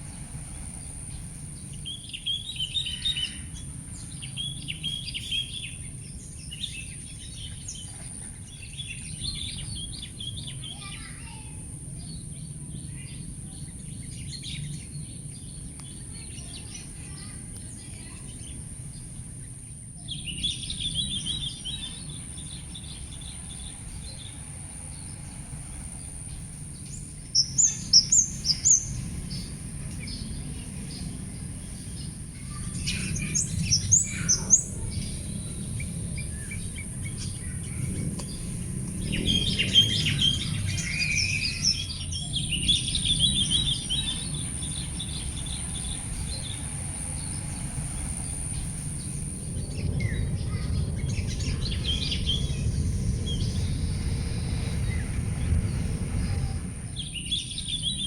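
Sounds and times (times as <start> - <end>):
low outdoor rumble: 0.0 - 58.0
small birds chirping: 0.0 - 58.0.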